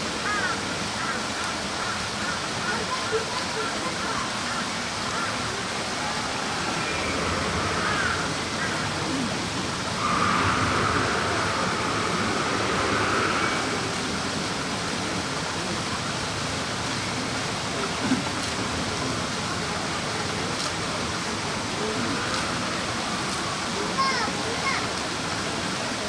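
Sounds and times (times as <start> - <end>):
steady rushing hiss: 4.0 - 26.0.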